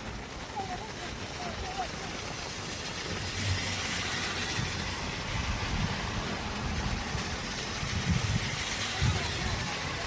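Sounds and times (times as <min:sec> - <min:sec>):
heavy rain and floodwater: 0:00.0 - 0:10.0.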